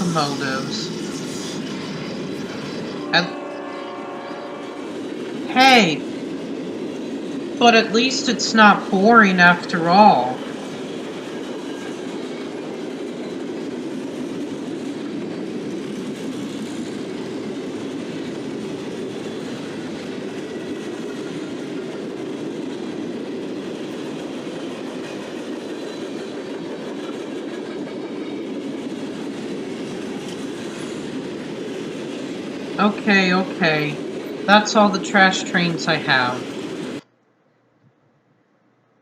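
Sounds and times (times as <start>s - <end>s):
freight cars rolling on rails: 0.0s - 37.0s.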